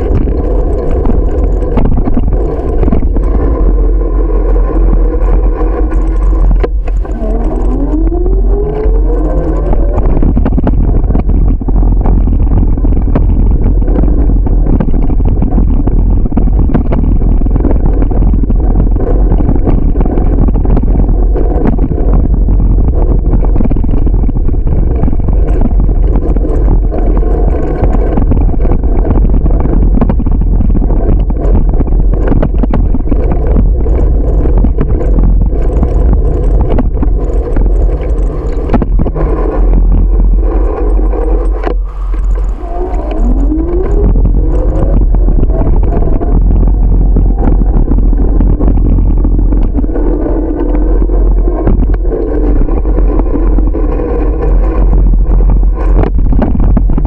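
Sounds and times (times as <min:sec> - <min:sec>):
bicycle rattles and clicks: 0:00.0 - 0:57.0
road and wind noise: 0:00.0 - 0:57.0.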